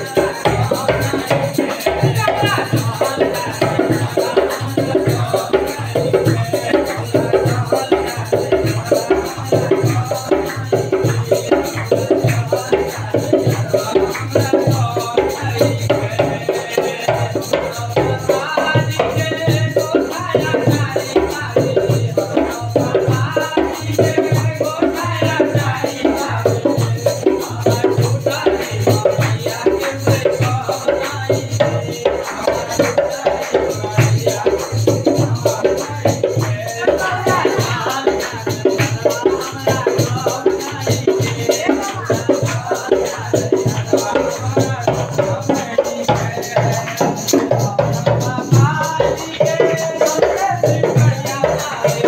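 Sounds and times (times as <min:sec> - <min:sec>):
fast drum beat: 0:00.0 - 0:52.0
man singing into a microphone: 0:00.0 - 0:52.0
rattling percussion: 0:00.0 - 0:52.0.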